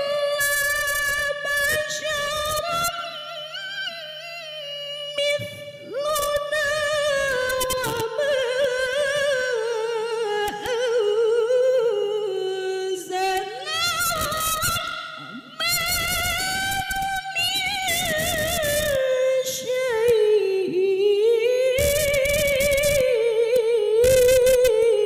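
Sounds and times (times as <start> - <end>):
woman chanting melodic recitation: 0.0 - 25.0.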